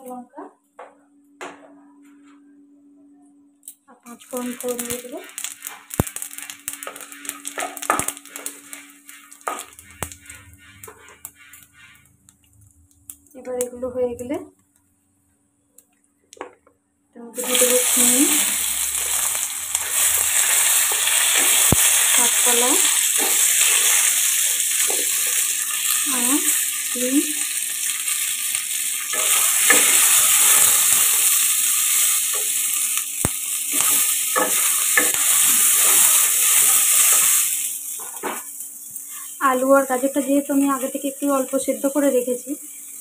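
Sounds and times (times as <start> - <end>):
vegetables sizzling in hot oil: 4.0 - 13.8, 17.3 - 43.0.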